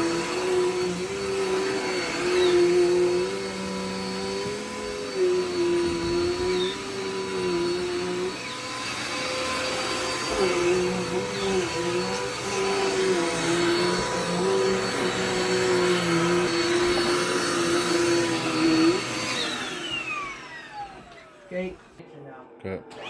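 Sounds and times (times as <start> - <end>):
vacuum cleaner motor running: 0.0 - 22.0.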